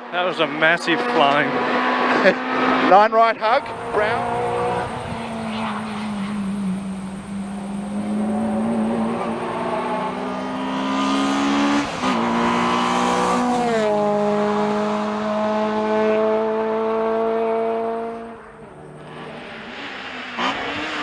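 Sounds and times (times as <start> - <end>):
car engine revving high: 0.9 - 21.0.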